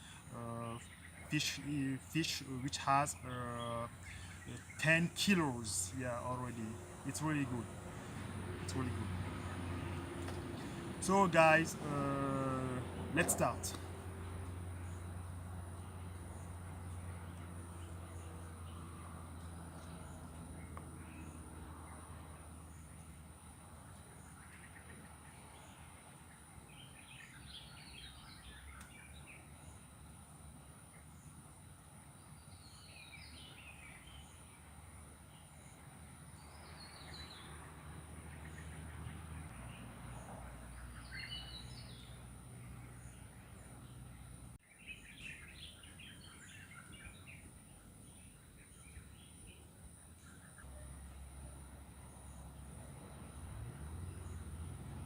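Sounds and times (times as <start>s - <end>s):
bird chirping: 0.0s - 23.2s, 23.8s - 29.8s, 32.2s - 34.7s, 35.3s - 37.7s, 38.3s - 51.2s
high insect drone: 0.0s - 44.6s, 45.2s - 55.0s.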